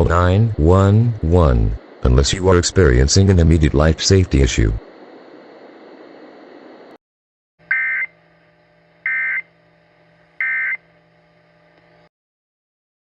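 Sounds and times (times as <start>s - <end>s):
faint steady hum: 0.0s - 7.0s, 7.6s - 12.1s.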